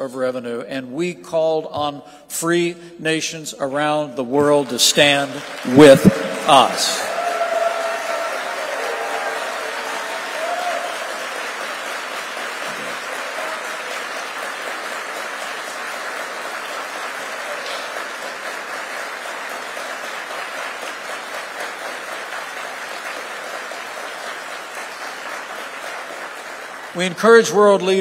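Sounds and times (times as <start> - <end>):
large audience applauding: 4.5 - 28.0.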